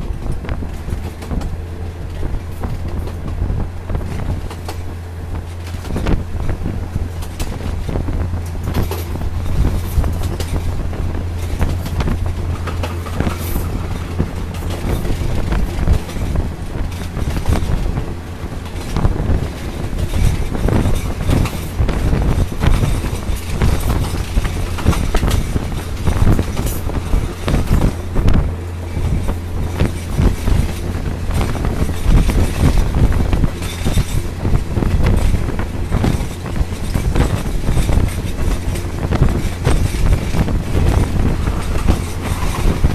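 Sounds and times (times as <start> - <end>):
train engine hum: 0.0 - 42.9
wheels clattering on rails: 0.0 - 42.9
wind rushing past: 0.0 - 42.9.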